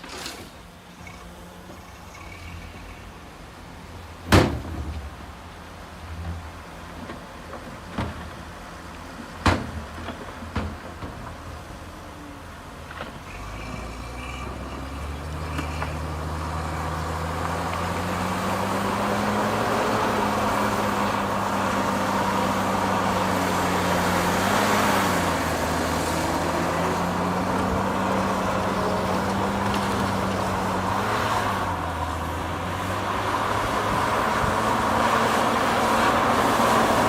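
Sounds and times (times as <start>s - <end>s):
heavy diesel engine under load: 0.0s - 37.0s.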